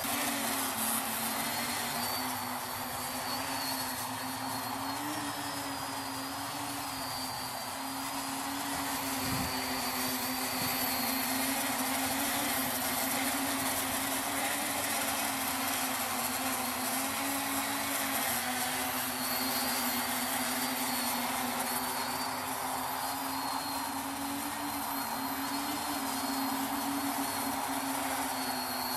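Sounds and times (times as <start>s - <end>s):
quadcopter propellers buzzing: 0.0s - 28.9s.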